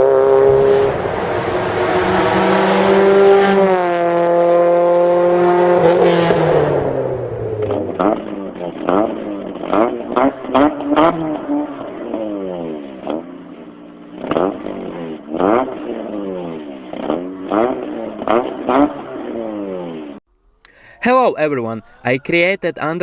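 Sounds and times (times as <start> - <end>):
car engine revving: 0.0 - 20.2.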